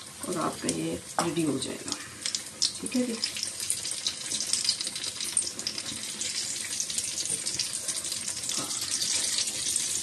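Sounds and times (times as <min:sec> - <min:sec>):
cutlets sizzling and crackling in oil: 0:00.0 - 0:10.0.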